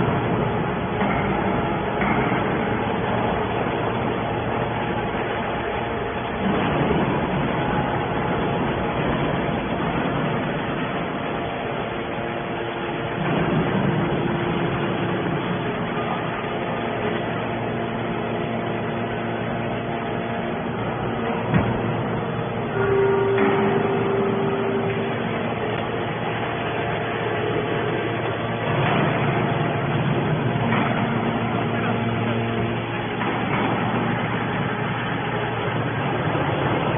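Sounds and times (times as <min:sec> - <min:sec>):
hydraulic baler running: 0:00.0 - 0:36.9.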